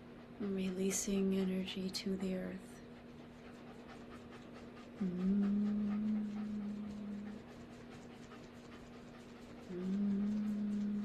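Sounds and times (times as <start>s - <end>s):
faint steady drone: 0.0s - 11.0s
long low hum: 0.0s - 11.0s.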